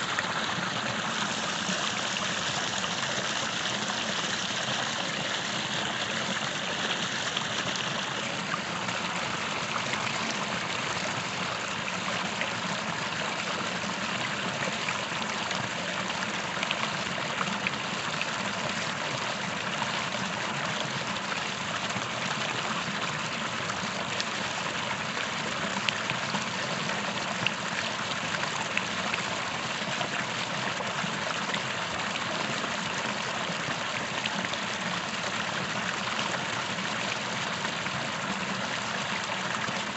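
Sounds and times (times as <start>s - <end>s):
creek water rushing over stones: 0.0s - 39.9s.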